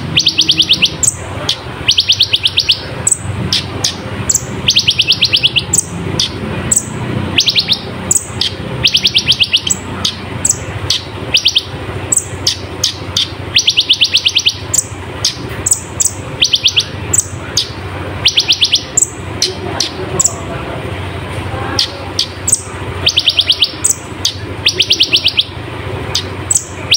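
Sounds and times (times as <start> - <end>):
sharp high bird chips: 0.0 - 20.5, 21.8 - 26.9
sunbird trilling: 0.0 - 20.5, 21.8 - 26.9.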